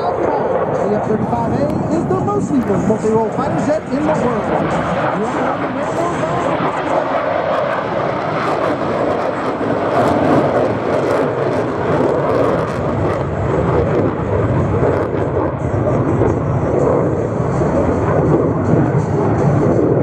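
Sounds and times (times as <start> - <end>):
fighter jet flying past: 0.0 - 20.0.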